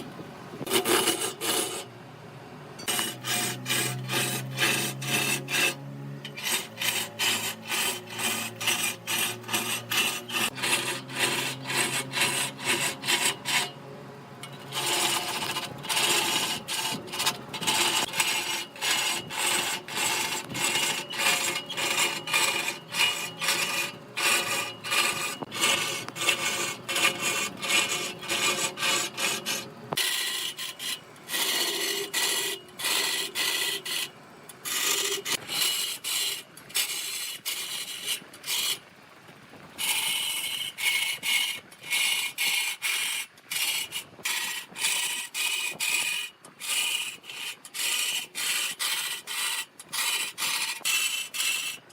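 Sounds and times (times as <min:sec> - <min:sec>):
wood rasping and scraping: 0:00.0 - 0:01.9, 0:02.8 - 0:13.8, 0:14.4 - 0:38.8, 0:39.8 - 0:51.9.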